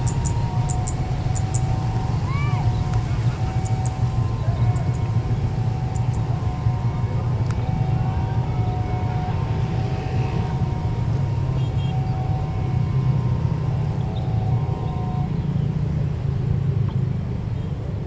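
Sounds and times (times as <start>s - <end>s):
jet engines rumbling: 0.0s - 18.0s
thin engine whine: 0.0s - 18.0s.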